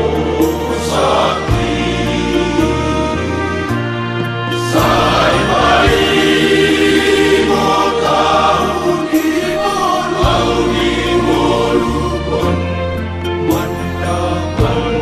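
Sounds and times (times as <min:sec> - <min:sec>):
choir singing a hymn: 0:00.0 - 0:15.0
low bass notes: 0:00.0 - 0:15.0.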